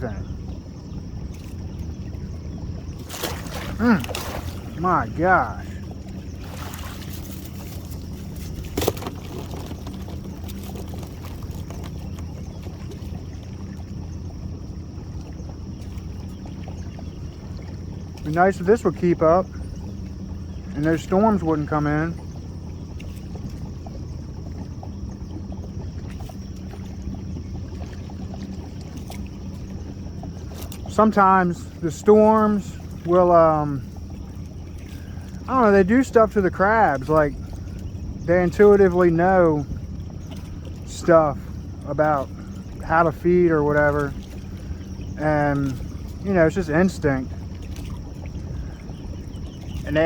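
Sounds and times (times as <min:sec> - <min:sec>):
boat motor running: 0:00.0 - 0:50.0.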